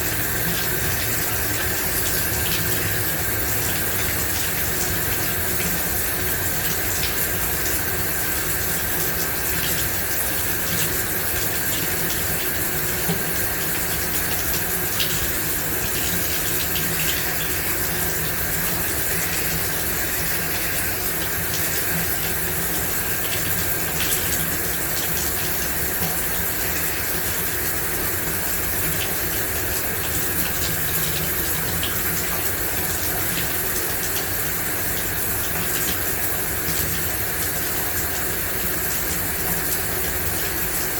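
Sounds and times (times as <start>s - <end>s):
water splashes and drips: 0.0s - 40.9s.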